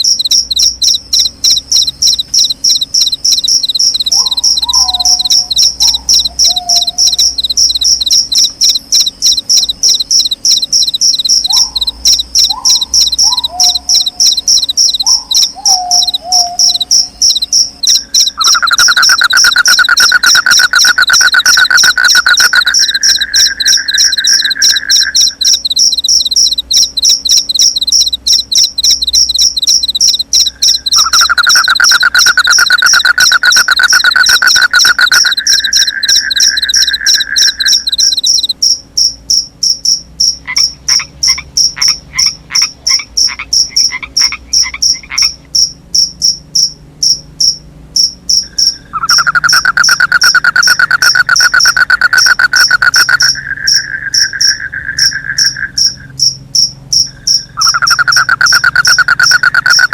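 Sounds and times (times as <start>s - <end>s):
low trilling frog call: 0.0s - 38.6s, 40.4s - 45.5s, 48.4s - 56.2s, 57.0s - 59.9s
pulsed calls: 0.0s - 38.6s, 48.5s - 56.2s, 57.1s - 59.9s
crickets chirping: 0.0s - 59.9s.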